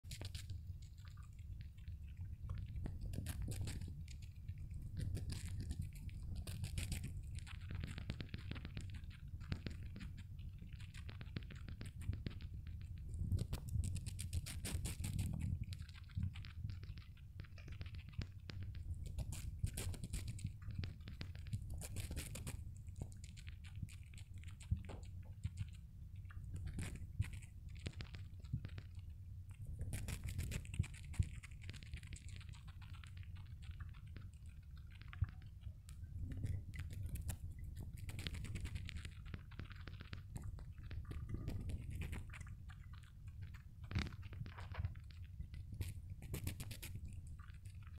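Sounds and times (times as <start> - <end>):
hamster chewing apple: 0.0 - 47.9.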